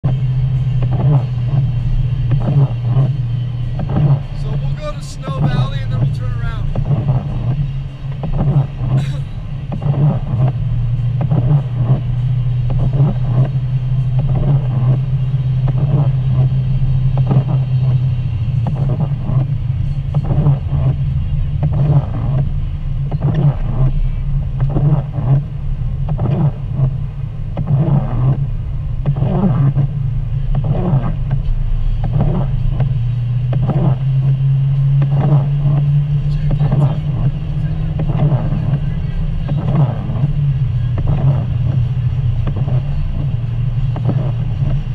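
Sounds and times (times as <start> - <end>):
car engine and tyres droning: 0.0 - 44.9.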